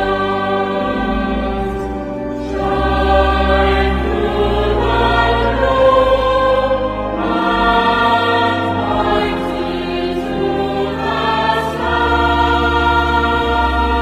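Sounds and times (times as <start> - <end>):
slow choral music: 0.0 - 14.0.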